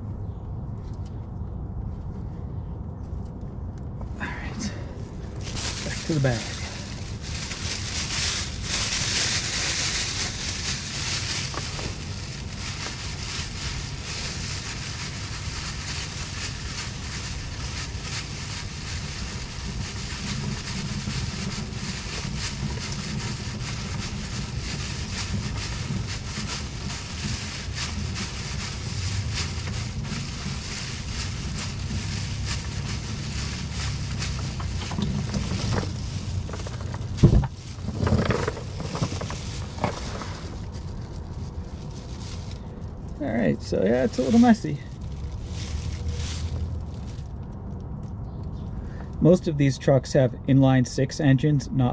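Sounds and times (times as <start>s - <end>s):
plastic bag rustling: 4.3s - 47.8s.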